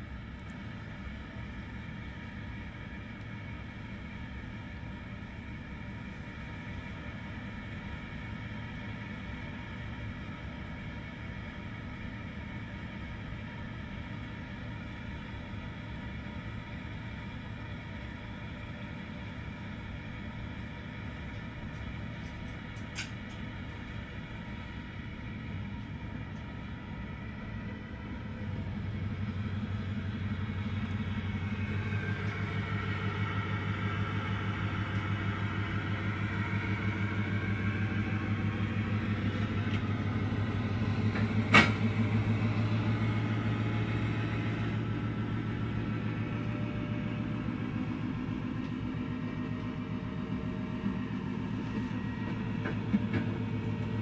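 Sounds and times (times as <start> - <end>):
heavy engine rumbling: 0.0 - 54.0.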